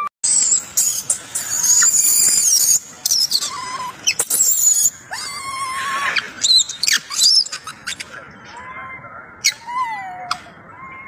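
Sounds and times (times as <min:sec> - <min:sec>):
infant monkey screaming: 0:00.3 - 0:11.0.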